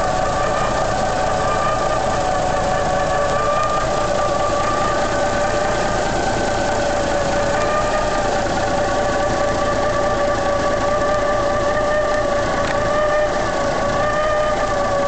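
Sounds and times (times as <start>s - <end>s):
steady whine: 0.0s - 15.0s
truck diesel engine idling: 0.0s - 15.0s.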